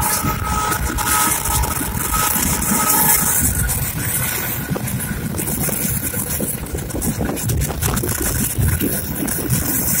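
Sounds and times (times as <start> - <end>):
rushing noise: 0.0 - 10.0
train wheels rumbling: 0.0 - 10.0.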